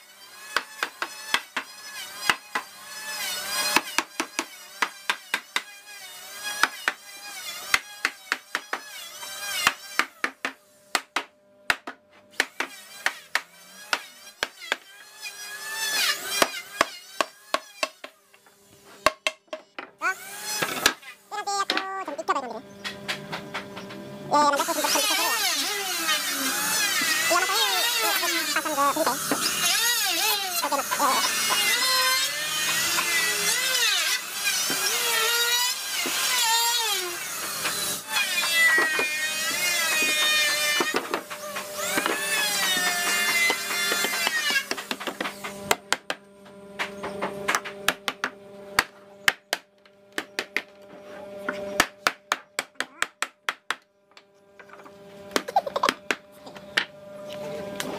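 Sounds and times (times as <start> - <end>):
electric router cutting wood: 0.0 - 11.0, 12.4 - 19.0, 19.8 - 50.0, 50.7 - 51.9, 54.5 - 57.9.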